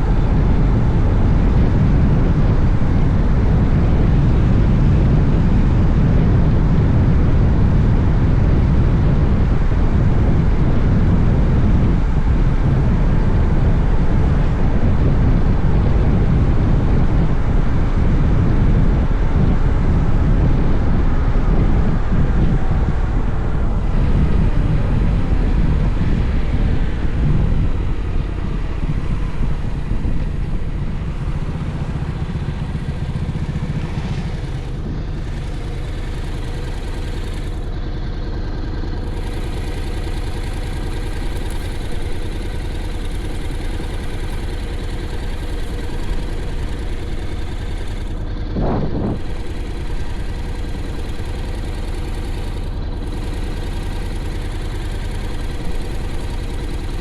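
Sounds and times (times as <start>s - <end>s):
motorcycle engine idling: 0.0s - 57.0s
wind and road noise: 0.0s - 57.0s.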